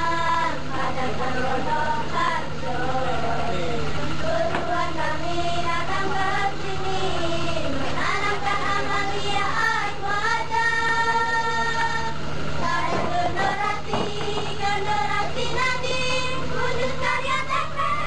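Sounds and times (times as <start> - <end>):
girls singing: 0.0 - 18.0.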